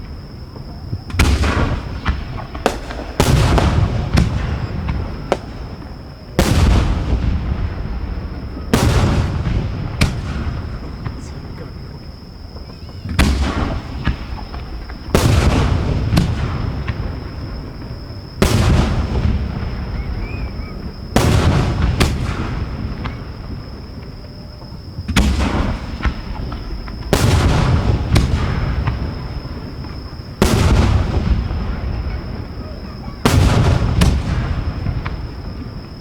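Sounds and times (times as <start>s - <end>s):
firework bangs with echo: 0.0s - 36.0s.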